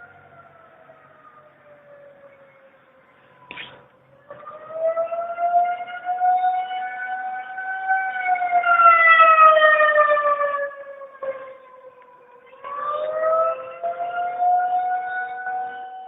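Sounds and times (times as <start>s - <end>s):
steady siren tone: 0.0s - 16.0s
warning siren wailing: 0.0s - 16.0s.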